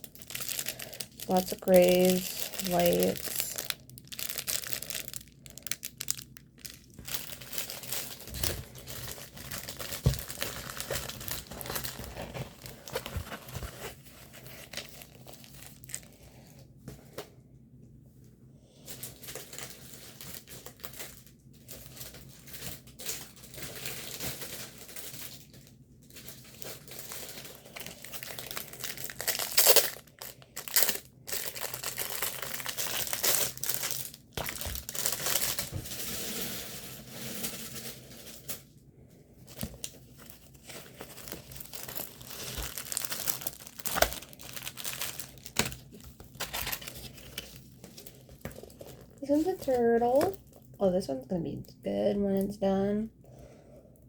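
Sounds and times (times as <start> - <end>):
plastic packaging crinkling: 0.0 - 17.2, 18.8 - 38.7, 39.4 - 50.8.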